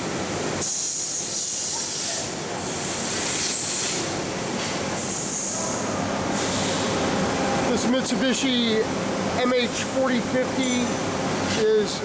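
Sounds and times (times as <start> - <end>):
machining center mechanical hum: 0.0 - 12.0.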